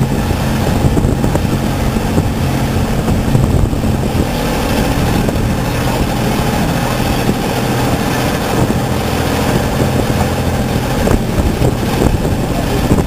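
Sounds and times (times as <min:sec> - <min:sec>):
ferry engine humming: 0:00.0 - 0:13.0.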